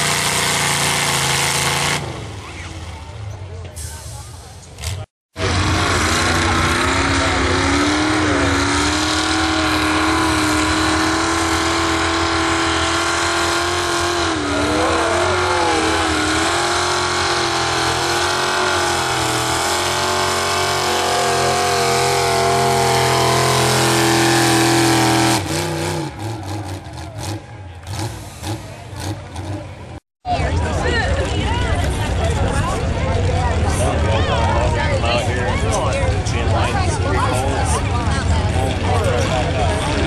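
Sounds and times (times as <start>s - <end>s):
truck engine running at high revs: 0.0s - 40.0s.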